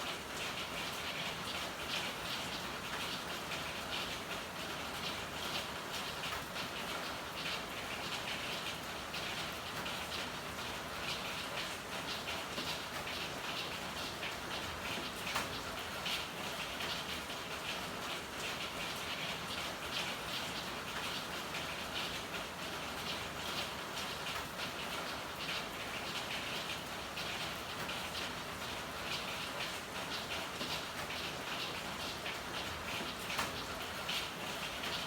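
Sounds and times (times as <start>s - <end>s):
rain pattering: 0.0s - 35.0s.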